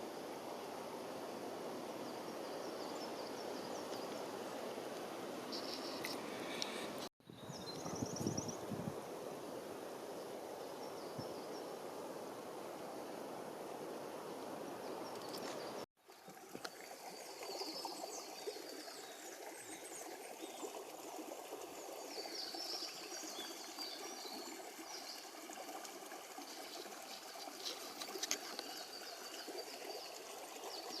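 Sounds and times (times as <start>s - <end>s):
stream running: 0.0s - 31.0s.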